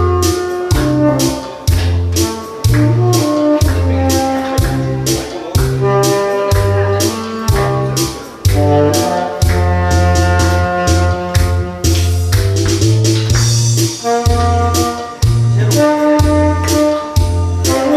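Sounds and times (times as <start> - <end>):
bass line: 0.0 - 17.9
saxophone melody: 0.0 - 17.9
steady drum beat: 0.0 - 17.9.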